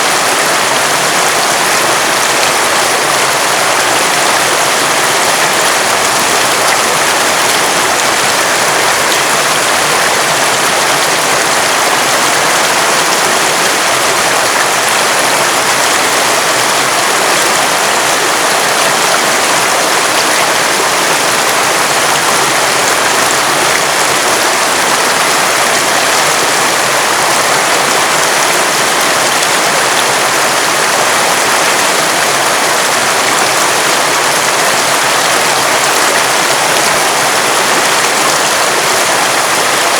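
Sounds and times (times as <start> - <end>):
river water over rocks: 0.0 - 39.9.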